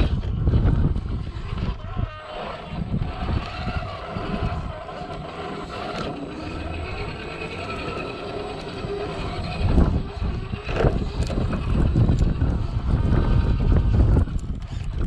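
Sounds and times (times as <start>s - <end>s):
electric motor and gearbox whining: 0.0s - 15.0s
low rumble: 0.0s - 15.0s.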